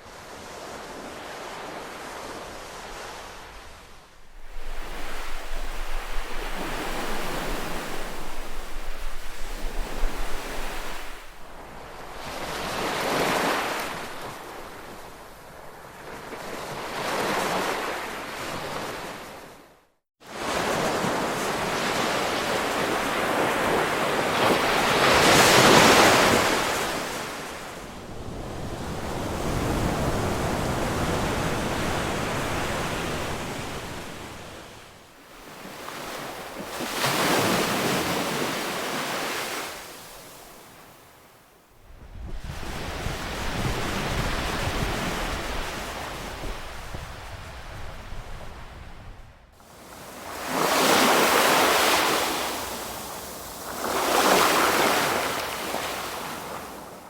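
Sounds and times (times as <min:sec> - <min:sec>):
ocean waves breaking: 0:00.6 - 0:19.3, 0:20.3 - 0:41.0, 0:49.6 - 0:56.9.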